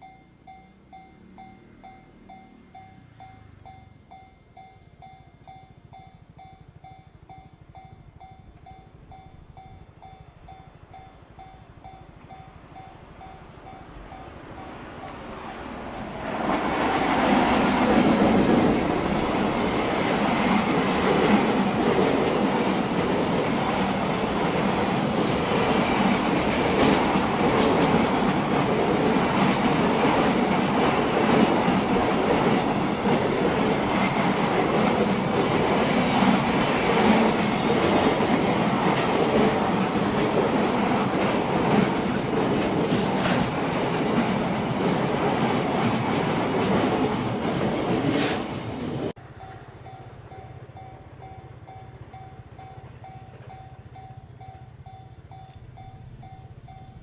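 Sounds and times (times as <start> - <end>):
train passing on track: 0.0 - 57.0.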